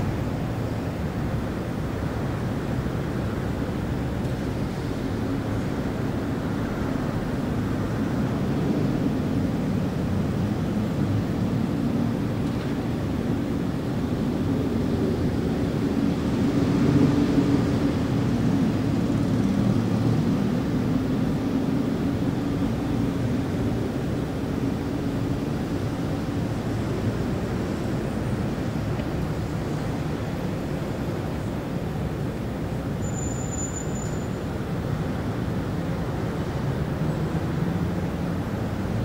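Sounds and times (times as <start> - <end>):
city traffic rumble: 0.0 - 39.0.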